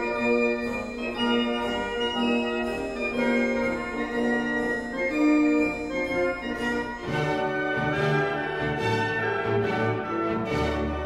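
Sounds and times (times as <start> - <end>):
slow keyboard melody: 0.0 - 10.1.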